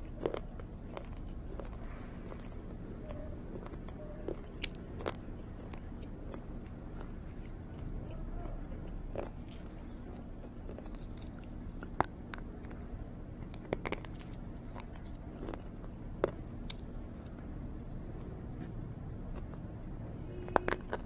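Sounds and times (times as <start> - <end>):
faint low hum: 0.0 - 21.0
person chewing crunchy food: 0.0 - 21.0.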